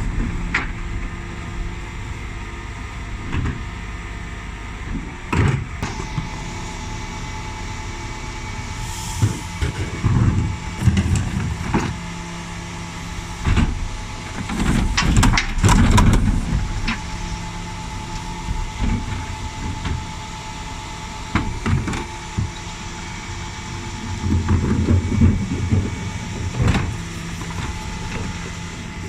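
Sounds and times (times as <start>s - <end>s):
truck engine and hydraulic hum: 0.0s - 29.0s.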